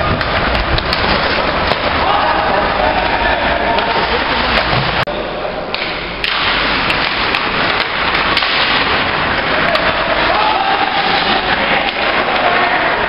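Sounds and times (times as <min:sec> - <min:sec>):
hockey sticks and puck clacking: 0:00.0 - 0:05.1, 0:05.7 - 0:13.0
rink noise: 0:00.0 - 0:13.0.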